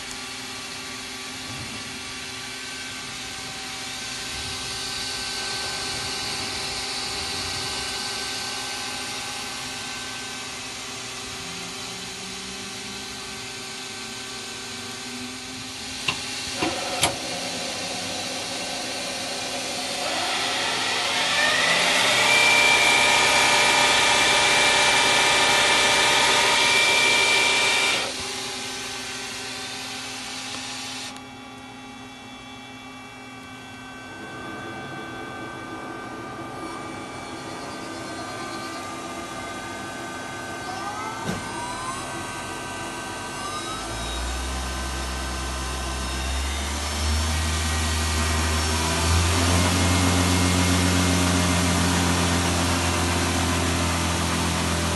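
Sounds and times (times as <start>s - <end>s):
high motor whine: 0.0s - 54.9s
lathe machine hum: 0.0s - 54.9s.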